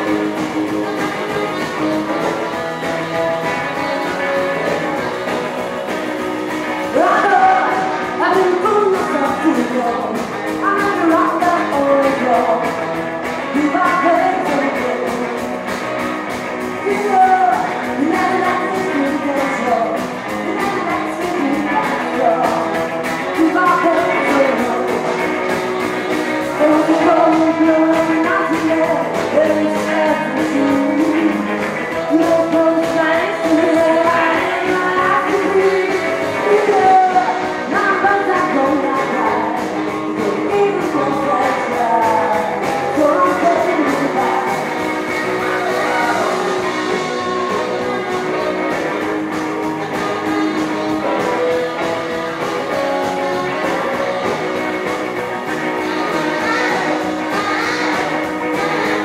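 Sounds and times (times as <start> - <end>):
person singing: 0.0 - 59.0
rockabilly band playing: 0.0 - 59.0
steady drum beat: 0.0 - 59.0.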